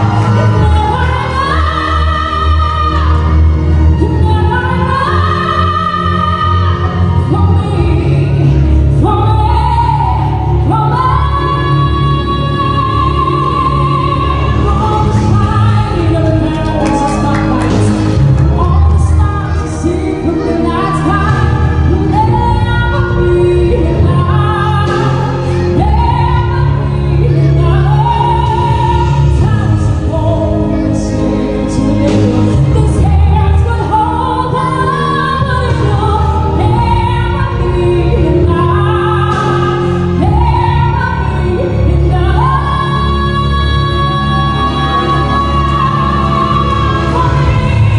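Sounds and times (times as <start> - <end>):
musical accompaniment: 0.0 - 47.9
woman singing into microphone: 0.0 - 47.9.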